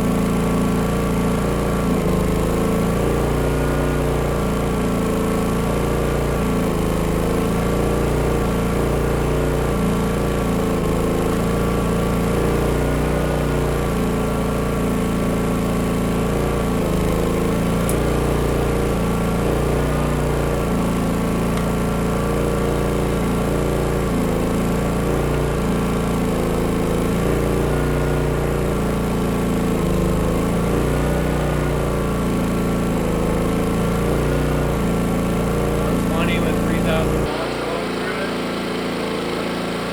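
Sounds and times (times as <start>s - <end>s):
generator running: 0.0s - 39.9s.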